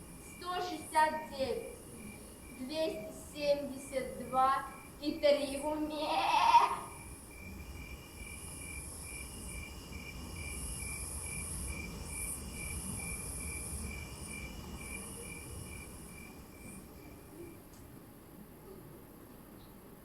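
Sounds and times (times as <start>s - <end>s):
higher insect trill: 0.0s - 17.7s
crickets chirping: 0.0s - 18.1s.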